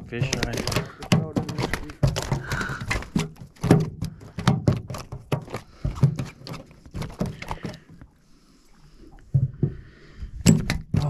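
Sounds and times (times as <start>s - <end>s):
dull thumps and knocks: 0.0s - 8.0s, 9.3s - 11.0s.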